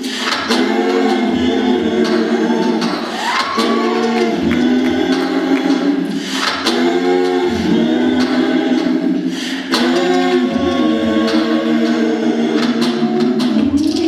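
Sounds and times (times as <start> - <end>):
group singing a cappella: 0.0 - 14.0
sharp percussive beats: 0.0 - 14.0.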